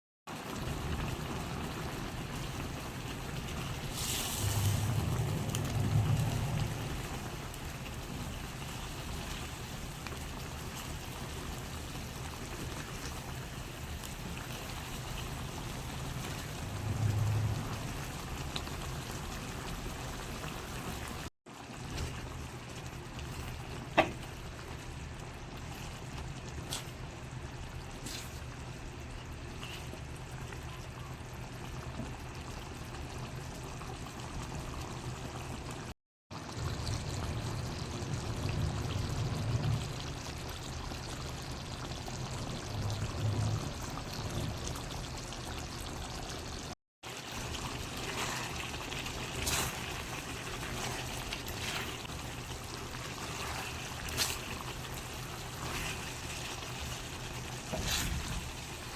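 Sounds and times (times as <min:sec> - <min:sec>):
curry bubbling in a pan: 0:00.3 - 0:58.9.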